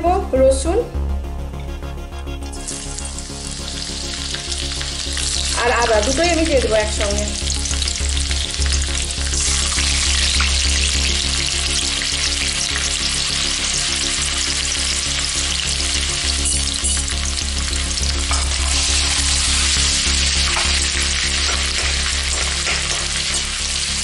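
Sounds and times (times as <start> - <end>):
garlic sizzling in hot oil: 2.6 - 24.0.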